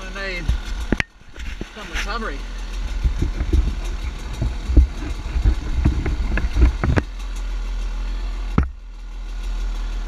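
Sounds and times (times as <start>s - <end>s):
dirt bike engine idling: 0.0s - 10.0s.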